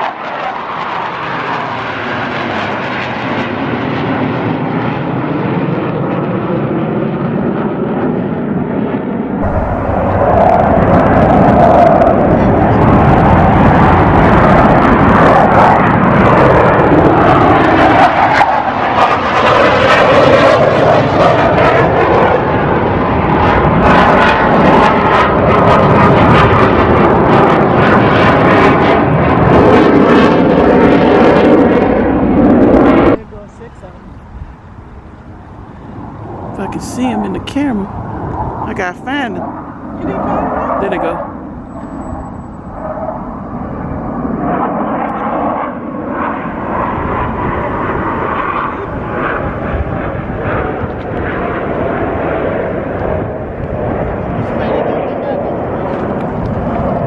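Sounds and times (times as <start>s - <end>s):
jet engines roaring overhead: 0.0s - 57.0s.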